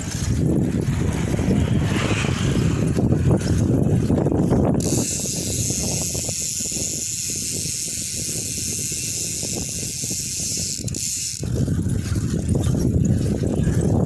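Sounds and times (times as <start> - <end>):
bicycle hub freewheel buzzing: 0.0 - 14.0.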